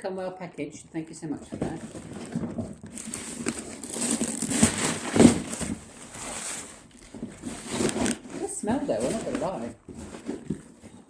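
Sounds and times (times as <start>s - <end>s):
packaging crumpling and rustling: 1.4s - 11.0s.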